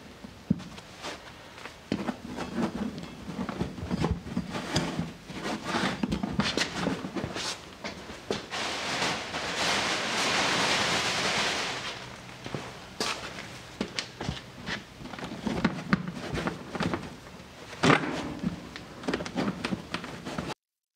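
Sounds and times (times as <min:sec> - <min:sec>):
steady rustling hiss: 0:00.0 - 0:20.6.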